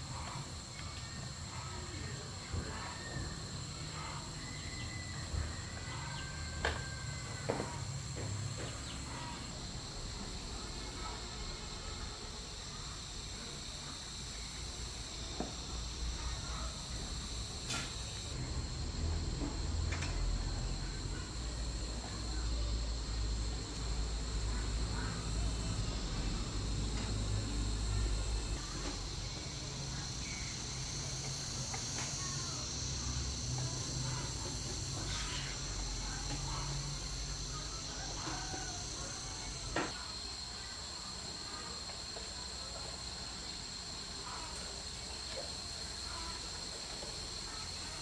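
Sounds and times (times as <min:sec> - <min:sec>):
insects shrill drone: 0:00.0 - 0:48.0.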